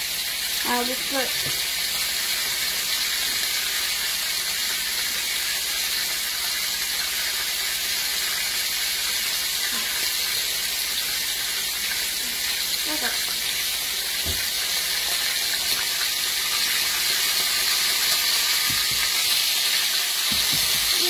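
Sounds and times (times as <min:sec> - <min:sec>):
steak sizzling in oil: 0:00.0 - 0:21.0.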